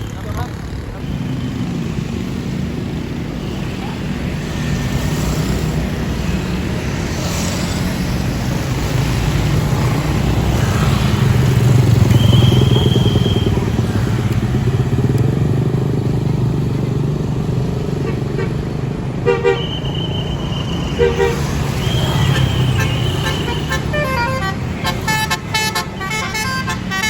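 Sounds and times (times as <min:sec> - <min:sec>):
diesel bus engine passing: 0:00.0 - 0:27.0.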